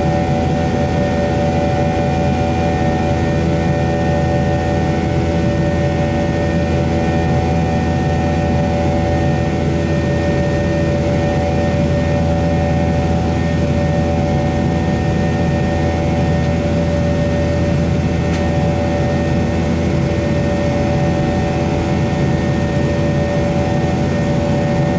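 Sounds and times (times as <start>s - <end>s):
jet engine drone in cabin: 0.0s - 24.9s.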